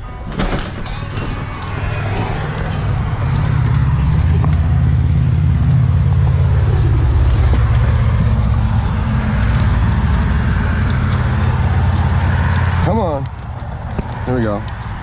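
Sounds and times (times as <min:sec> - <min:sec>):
vehicle engine running: 0:01.0 - 0:15.0.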